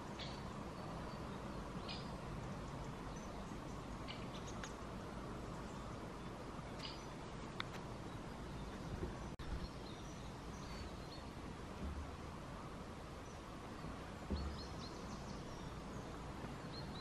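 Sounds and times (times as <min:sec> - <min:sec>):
faint bird chirps: 0:00.0 - 0:04.8, 0:05.4 - 0:12.5, 0:13.1 - 0:17.0
low background hiss: 0:00.0 - 0:17.0.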